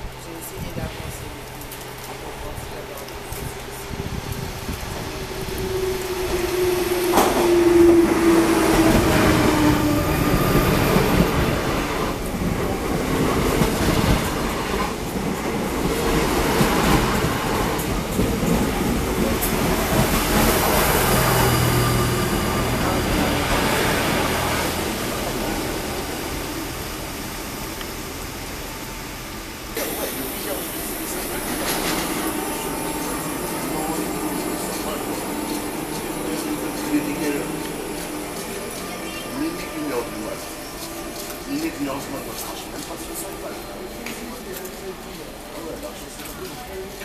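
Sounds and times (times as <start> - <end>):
low locomotive hum: 0.0 - 47.0
train wheels clattering on rails: 0.4 - 26.4, 29.7 - 47.0.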